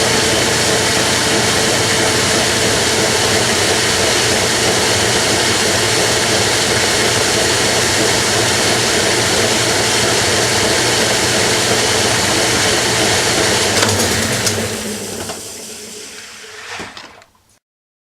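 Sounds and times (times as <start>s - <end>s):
washing machine hum and rushing: 0.0s - 17.3s.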